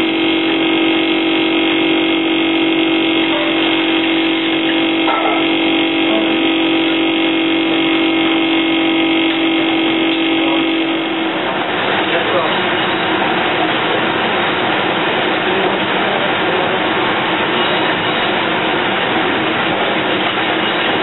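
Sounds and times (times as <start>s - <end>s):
kitchen equipment humming: 0.0s - 21.0s.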